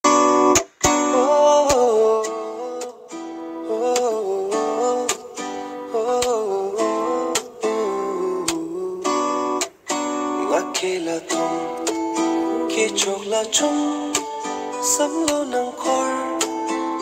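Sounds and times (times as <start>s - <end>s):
plucked acoustic guitar music: 0.0s - 17.0s.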